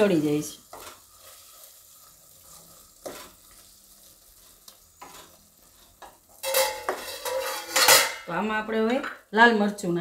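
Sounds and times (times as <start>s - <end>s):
spinach sizzling in a pan: 0.0s - 10.0s.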